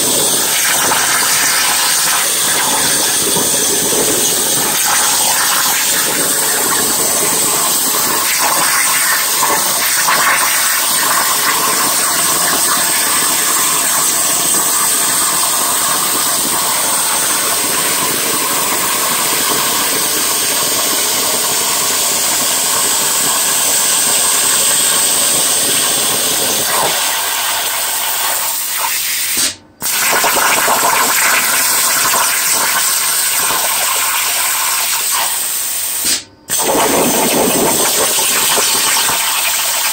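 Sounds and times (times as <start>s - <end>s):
plasma torch hissing: 0.0s - 39.9s.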